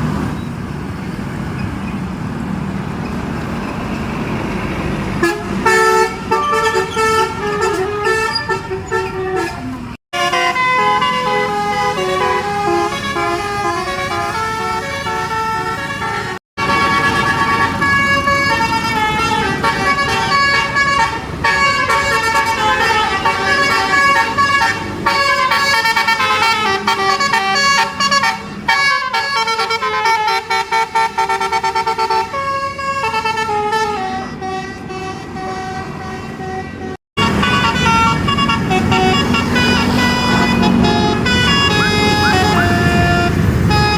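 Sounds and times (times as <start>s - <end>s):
bus horns playing melodies: 4.1s - 43.9s.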